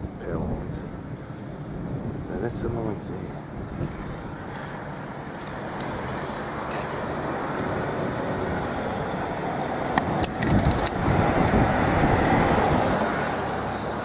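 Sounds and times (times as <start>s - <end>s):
vehicle approaching on street: 0.0s - 14.0s.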